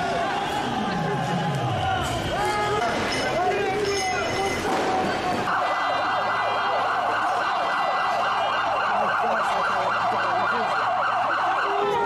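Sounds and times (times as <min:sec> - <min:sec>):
emergency sirens wailing: 0:00.0 - 0:12.0.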